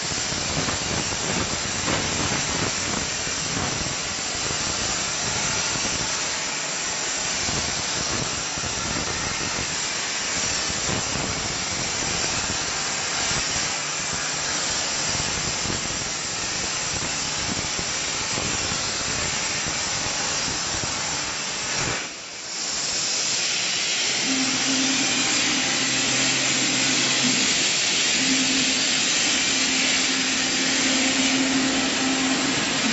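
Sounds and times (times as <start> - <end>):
plasma torch cutting steel: 0.0 - 32.9.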